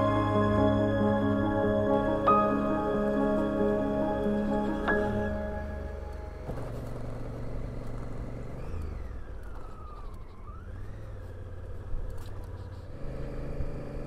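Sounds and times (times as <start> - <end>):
motorcycle engine cruising: 0.0 - 14.0
road and wind noise: 2.1 - 14.0.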